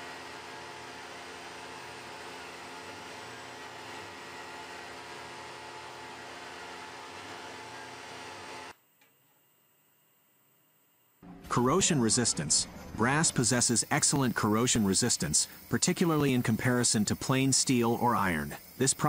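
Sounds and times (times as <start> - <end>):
milling machine hum with hiss: 0.0 - 8.8, 11.6 - 19.0.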